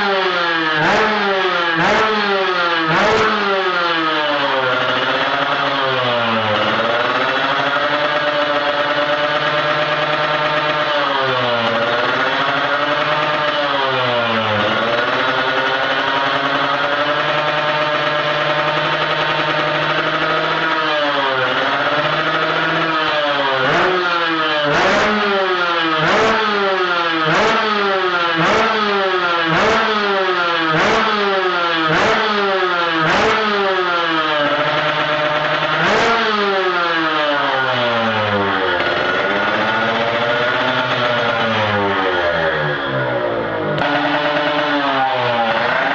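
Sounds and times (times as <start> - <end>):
motorcycle idling and revving: 0.0 - 45.9.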